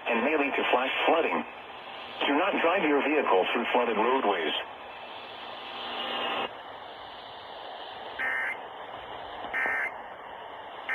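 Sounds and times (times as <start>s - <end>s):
radio hiss: 0.0s - 10.9s.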